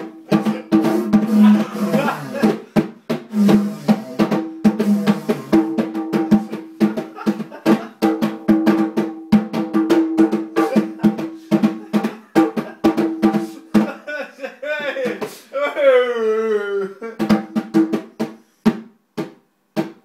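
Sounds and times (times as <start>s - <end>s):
bongo drums beaten by hand: 0.0s - 14.1s, 17.2s - 20.0s.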